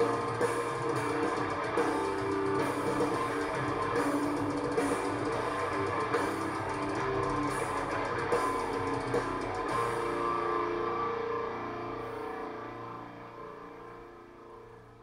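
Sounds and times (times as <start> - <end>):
rock music with guitar and drums: 0.0 - 13.3.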